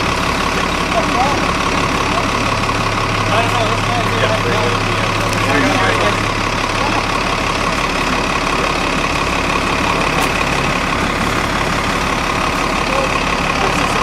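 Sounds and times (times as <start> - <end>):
bus engine idling: 0.0 - 14.0.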